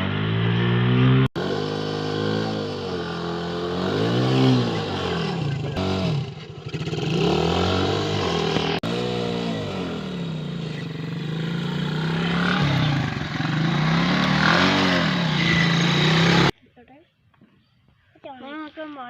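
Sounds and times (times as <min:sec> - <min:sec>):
atv engine revving: 0:00.0 - 0:16.6.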